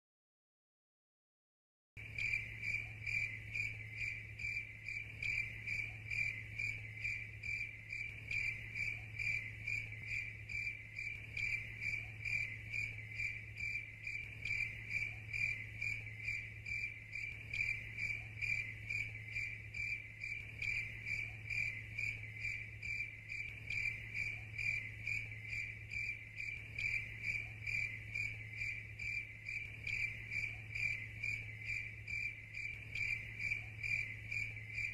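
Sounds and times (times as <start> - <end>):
cricket chirping: 2.0 - 34.9
faint low hum: 2.0 - 34.9.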